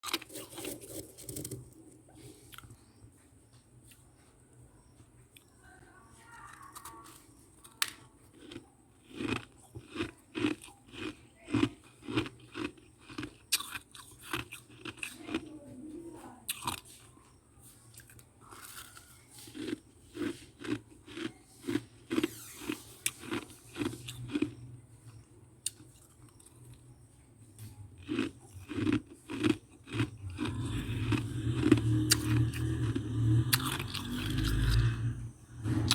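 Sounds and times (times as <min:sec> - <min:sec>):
frost chunks being chewed: 0:00.0 - 0:03.0, 0:06.5 - 0:15.5, 0:16.5 - 0:35.9.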